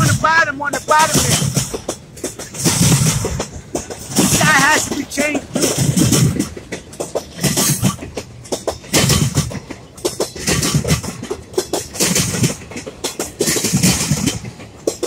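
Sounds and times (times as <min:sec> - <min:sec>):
freight train rolling by: 0:00.0 - 0:15.0
wheels clunking over rail joints: 0:00.0 - 0:15.0.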